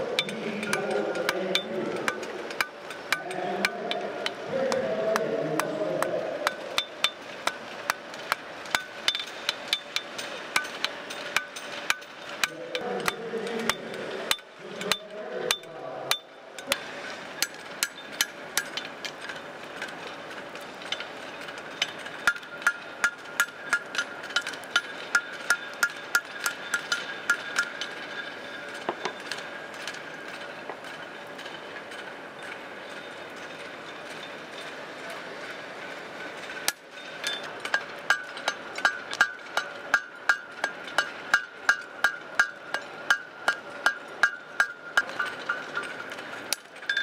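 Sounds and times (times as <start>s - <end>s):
anvils ringing: 0.0s - 35.2s, 35.9s - 47.0s
hammers striking steel on anvils: 0.0s - 35.2s, 36.4s - 47.0s.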